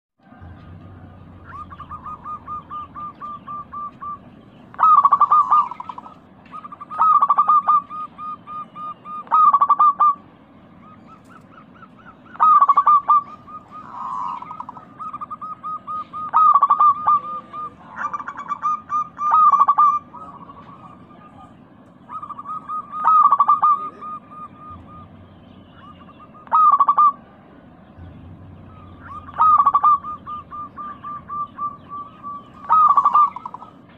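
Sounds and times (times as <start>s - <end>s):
rapid rolling dove call: 0.2s - 27.6s, 28.7s - 33.9s
dove cooing: 0.2s - 33.9s.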